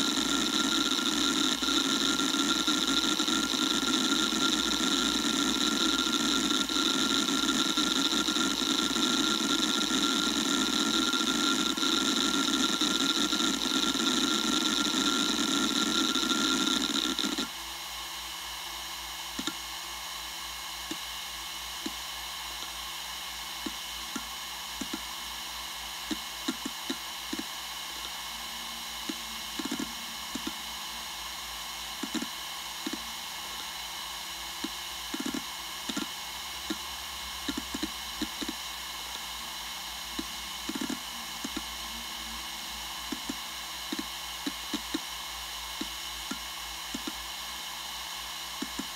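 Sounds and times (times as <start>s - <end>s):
hard drive whir and hiss: 0.0s - 48.9s
steady high whine: 0.0s - 48.9s.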